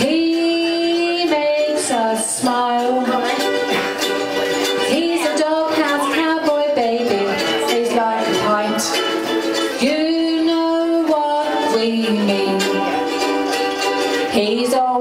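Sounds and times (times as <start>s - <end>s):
ukuleles strumming: 0.0s - 15.0s.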